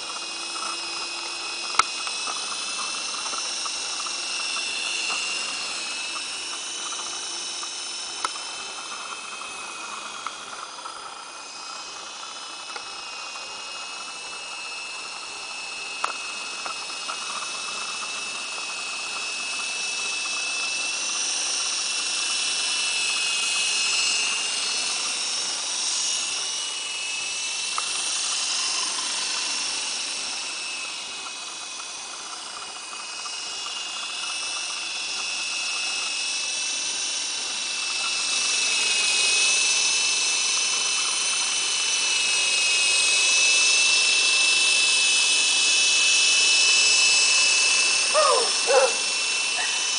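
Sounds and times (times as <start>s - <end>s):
helicopter rotor noise: 0.0s - 49.9s
toy helicopter motor whine: 0.0s - 49.9s.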